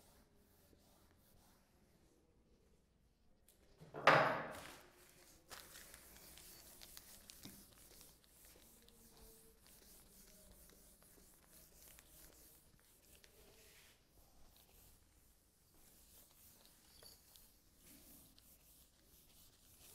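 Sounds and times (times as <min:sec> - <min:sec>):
duster rubbing on whiteboard: 0:00.0 - 0:01.7, 0:05.2 - 0:19.9.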